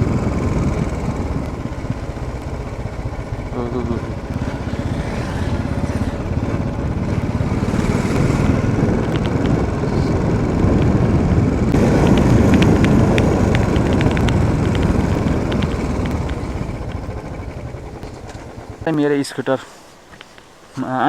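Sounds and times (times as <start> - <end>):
motorcycle engine thumping: 0.0 - 20.9
faint sharp ticks: 0.1 - 9.8, 11.7 - 19.0.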